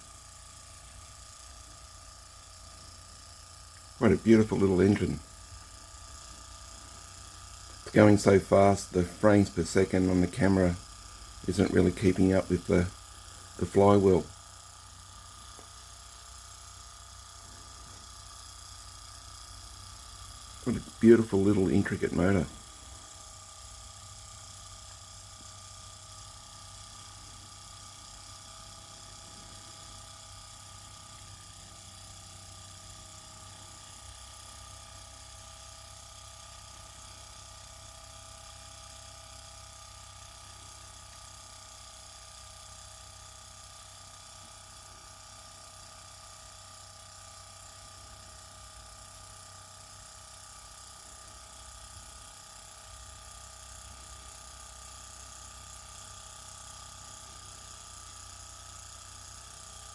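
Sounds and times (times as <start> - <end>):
small engine high-pitched whine: 0.0 - 59.9.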